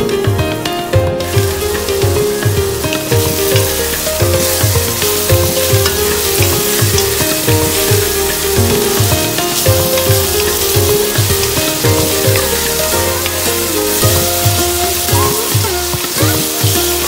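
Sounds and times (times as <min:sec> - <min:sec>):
background music with steady beat: 0:00.0 - 0:17.0
onions sizzling in oil: 0:00.8 - 0:17.0
wooden spatula stirring: 0:01.2 - 0:17.0.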